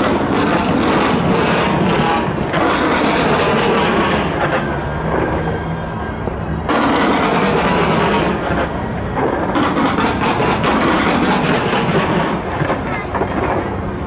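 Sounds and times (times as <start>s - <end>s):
crackling fireworks: 0.0s - 14.0s
fireworks barrage: 0.0s - 14.0s.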